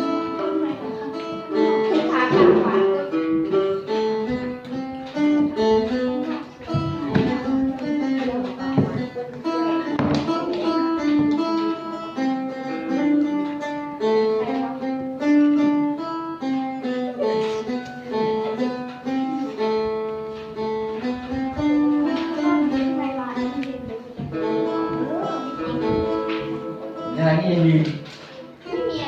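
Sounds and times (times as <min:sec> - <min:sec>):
plucked lute melody: 0:00.0 - 0:29.0.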